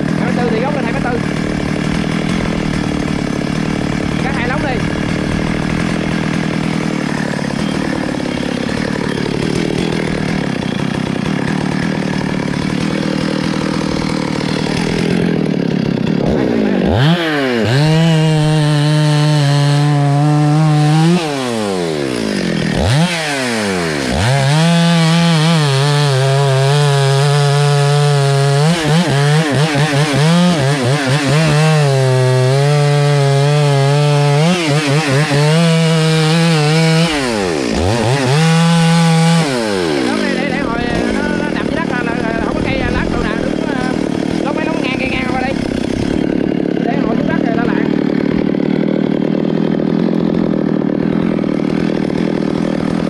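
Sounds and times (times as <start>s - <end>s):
chainsaw sawing through wood: 0.0s - 53.0s.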